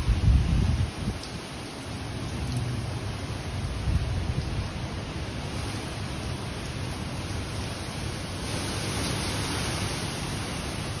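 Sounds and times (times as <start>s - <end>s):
hurricane wind: 0.0s - 11.0s
rain rushing: 0.0s - 11.0s.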